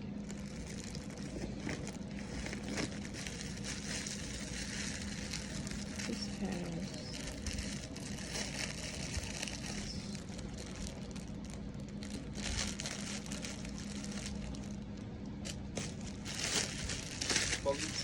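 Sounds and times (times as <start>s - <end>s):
low steady hum: 0.0s - 18.0s
plastic packaging crinkling: 0.1s - 18.0s.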